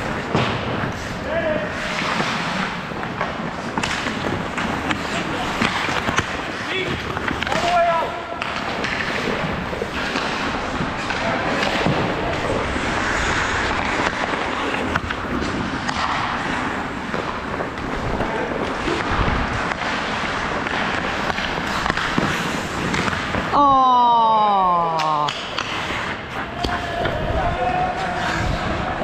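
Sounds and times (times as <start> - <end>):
skates scraping on ice: 0.0 - 23.8, 24.6 - 29.0
hockey sticks and puck clacking: 0.0 - 29.0.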